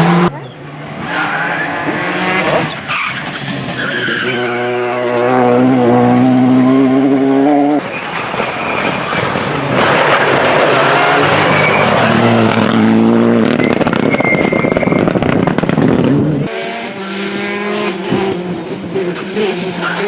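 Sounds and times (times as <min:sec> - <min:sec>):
rally car engine revving: 0:00.0 - 0:20.0
tyre and road noise: 0:00.0 - 0:20.0.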